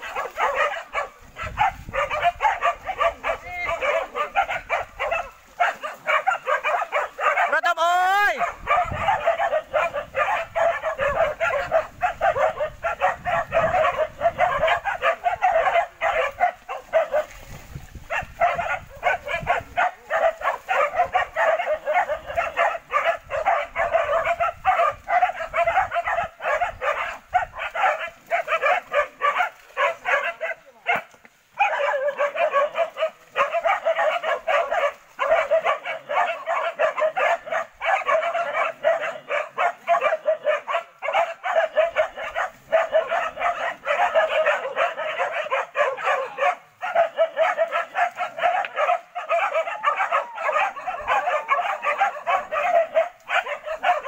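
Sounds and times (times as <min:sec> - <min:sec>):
dogs barking and yelping: 0:00.0 - 0:54.0.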